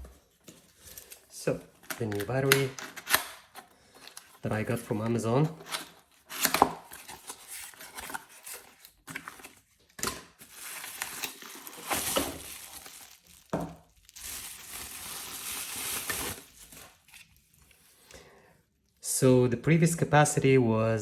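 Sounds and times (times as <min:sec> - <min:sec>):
packaging crinkling: 0:00.6 - 0:17.9.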